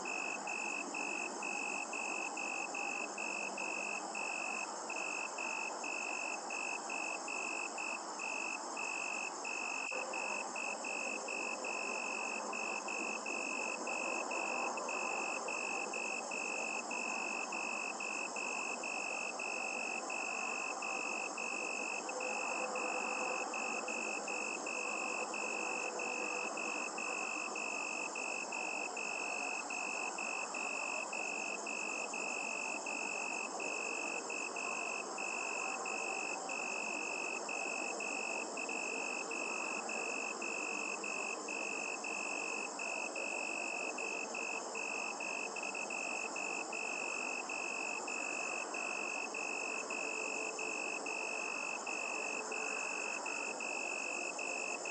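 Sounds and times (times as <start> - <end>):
crickets chirping: 0.0 - 54.9
steady background hiss: 0.0 - 54.9.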